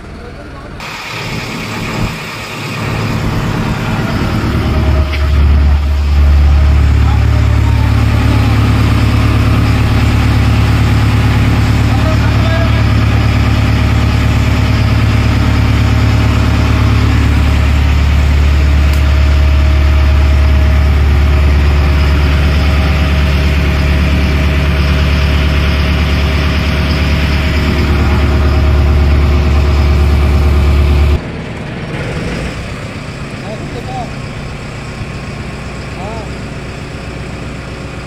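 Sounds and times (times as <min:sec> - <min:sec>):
motorboat engine humming: 0:00.0 - 0:31.9.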